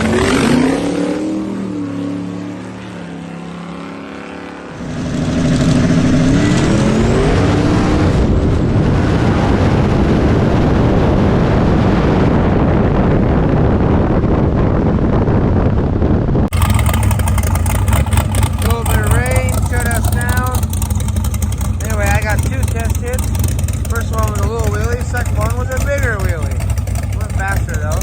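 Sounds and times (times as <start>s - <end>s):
drag race car engine revving: 0.0s - 11.0s, 16.5s - 28.0s.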